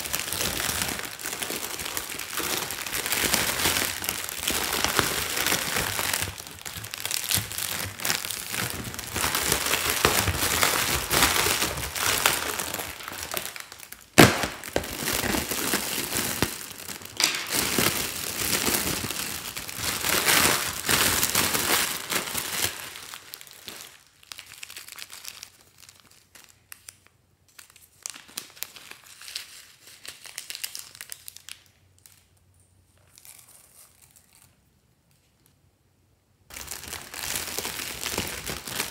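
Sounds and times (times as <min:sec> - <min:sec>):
metallic foil crinkling: 0:00.0 - 0:34.6, 0:36.5 - 0:38.9.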